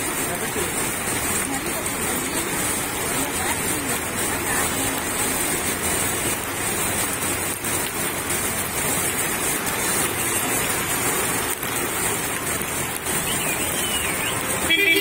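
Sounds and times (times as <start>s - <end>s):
heavy rain on standing water: 0.0s - 15.0s.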